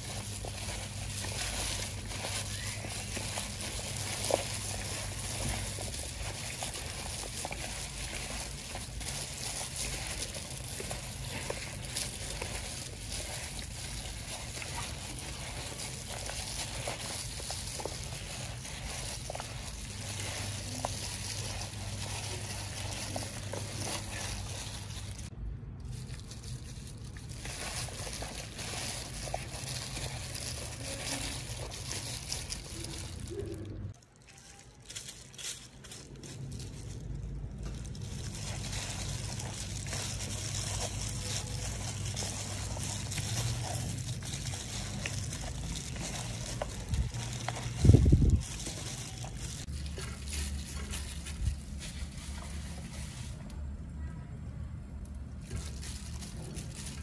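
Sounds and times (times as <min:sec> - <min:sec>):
wet squishing: 0:00.0 - 0:53.8, 0:54.9 - 0:57.0
plastic glove rustling: 0:00.0 - 0:54.2, 0:54.8 - 0:57.0.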